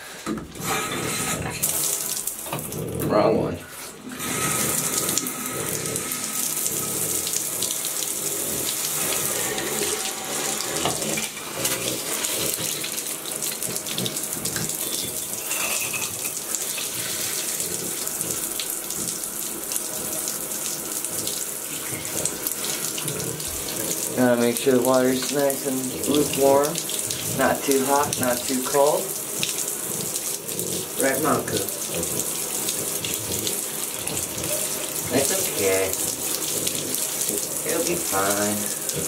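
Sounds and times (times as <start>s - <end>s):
shower water rushing into tub: 0.0s - 39.0s.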